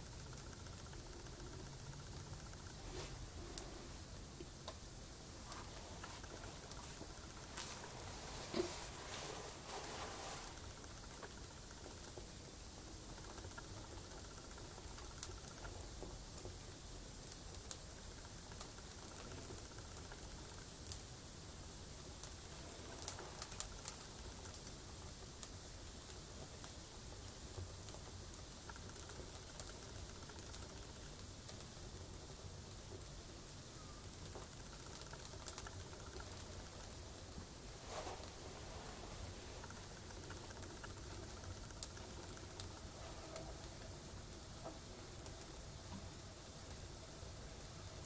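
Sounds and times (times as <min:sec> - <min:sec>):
faint low hum: 0:00.0 - 0:48.0
faint steady hiss: 0:00.0 - 0:48.0
firewood crackling and popping: 0:00.0 - 0:48.0.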